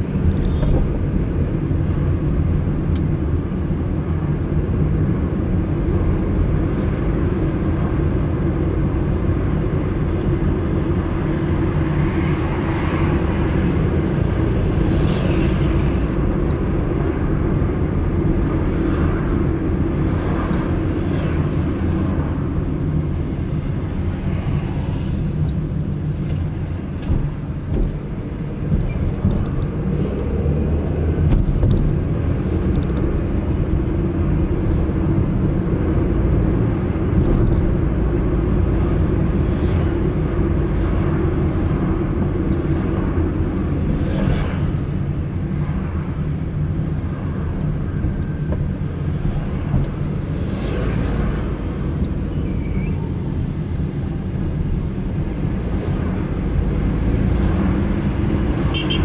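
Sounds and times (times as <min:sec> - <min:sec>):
car engine and road noise: 0:00.0 - 0:59.0
faint traffic sounds: 0:00.0 - 0:59.0.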